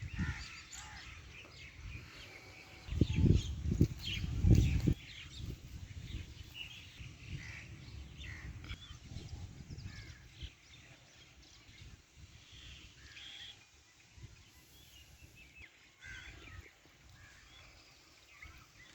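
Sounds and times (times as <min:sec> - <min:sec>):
birds chirping: 0:00.0 - 0:18.9.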